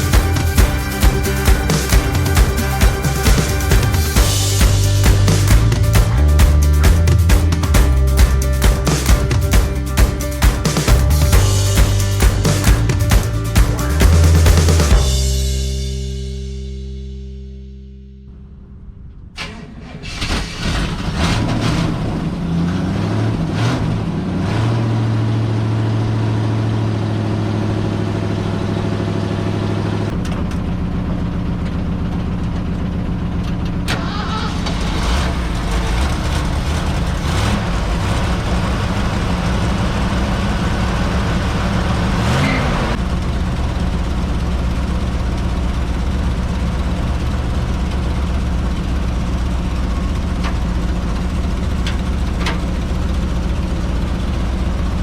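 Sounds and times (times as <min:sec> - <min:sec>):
car engine starting and running: 0:00.0 - 0:55.0.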